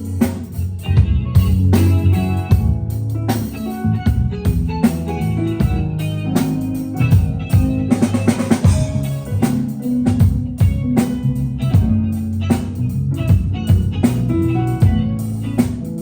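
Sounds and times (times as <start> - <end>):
drum kit beating: 0.0 - 16.0
guitar: 0.0 - 16.0
low bass notes: 0.0 - 16.0.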